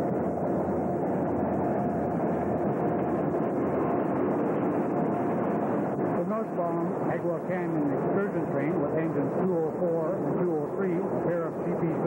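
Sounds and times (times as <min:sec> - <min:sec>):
faint constant hum: 0:00.0 - 0:12.0
locomotive engines: 0:00.0 - 0:12.0.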